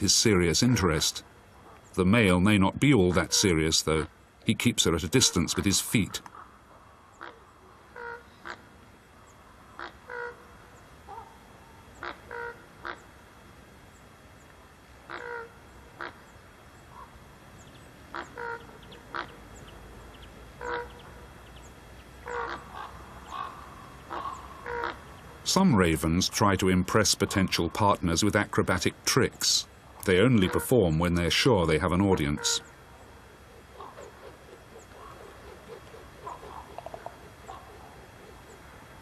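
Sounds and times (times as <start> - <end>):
ravens calling: 0.0 - 13.2, 14.6 - 39.0.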